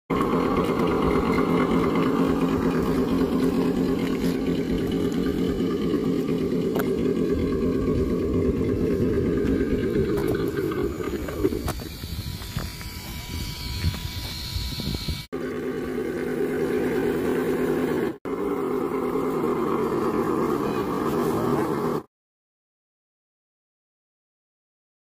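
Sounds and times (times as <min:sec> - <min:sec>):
engine-like hum: 0:00.1 - 0:22.1.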